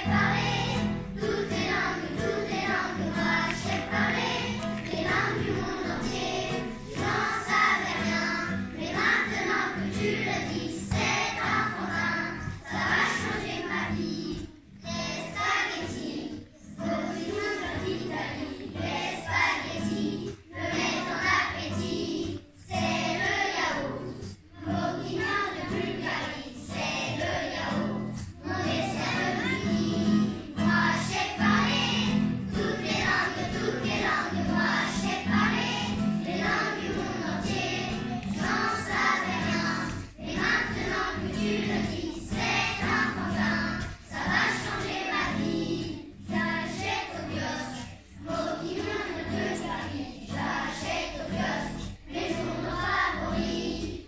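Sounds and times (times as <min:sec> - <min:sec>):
acoustic guitar: 0:00.0 - 0:54.0
children's choir singing: 0:00.0 - 0:54.0.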